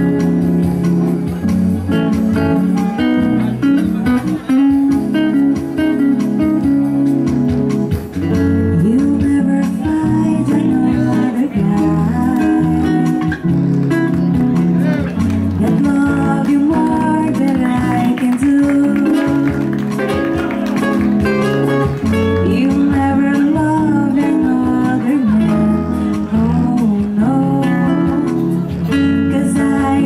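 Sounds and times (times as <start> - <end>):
band music with guitar: 0.0 - 30.0
bass line: 0.0 - 30.0.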